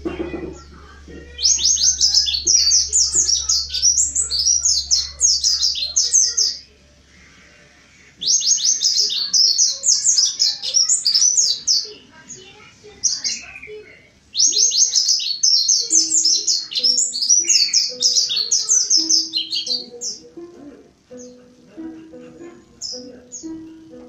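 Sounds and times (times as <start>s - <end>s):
bird chattering song: 0.0s - 6.8s, 8.2s - 20.5s, 21.1s - 24.0s.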